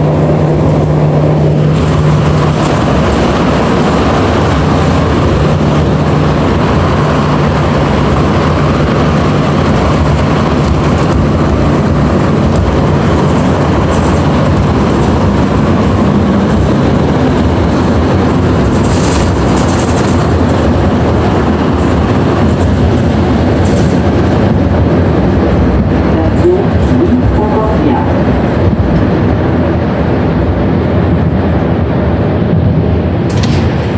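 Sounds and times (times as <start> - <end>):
metro train rumbling in tunnel: 0.0 - 33.9.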